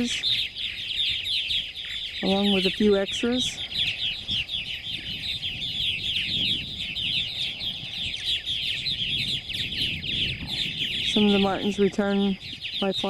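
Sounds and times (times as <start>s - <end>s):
birds chirping in a colony: 0.0s - 13.0s.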